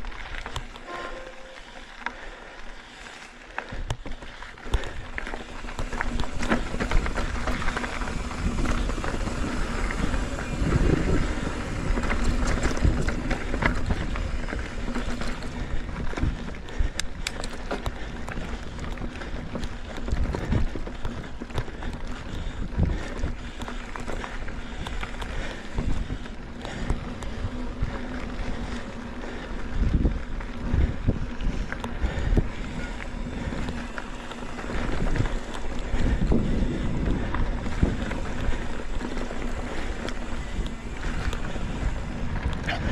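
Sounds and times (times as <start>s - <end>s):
bike clicks and knocks: 0.0s - 1.0s, 1.6s - 42.9s
bike tyres rumbling on dirt: 0.0s - 42.9s
wind buffeting microphone: 4.8s - 42.9s.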